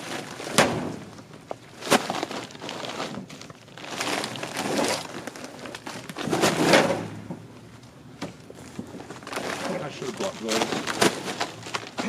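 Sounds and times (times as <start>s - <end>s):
plastic bags crinkling: 0.0s - 6.7s, 8.6s - 12.0s.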